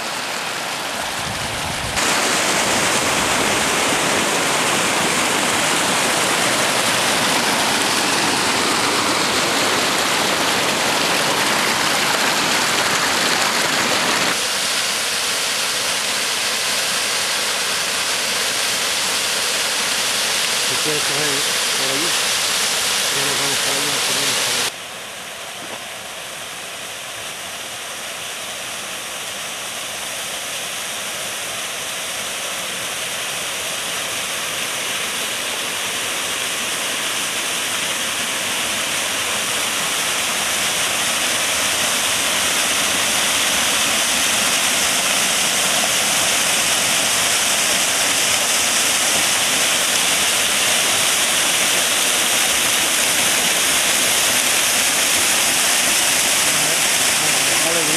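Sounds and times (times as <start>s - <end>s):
waterfall rushing and splashing: 0.0s - 57.9s.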